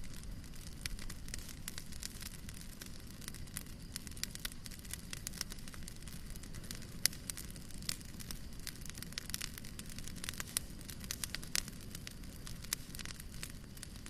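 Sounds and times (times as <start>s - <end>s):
fire crackling in fireplace: 0.0s - 14.0s
sharp fire pops: 0.0s - 14.0s.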